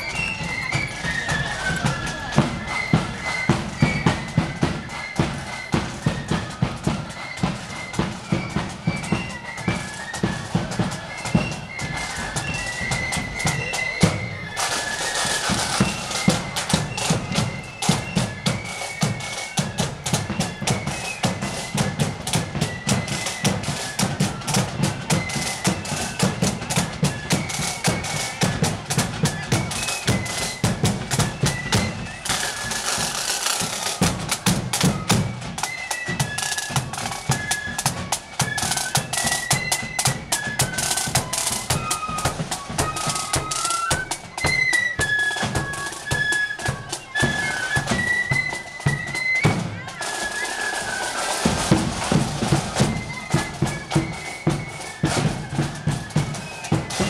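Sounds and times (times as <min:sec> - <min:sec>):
march drumbeat with bass drum: 0:00.0 - 0:57.0
marching band music: 0:00.0 - 0:57.0.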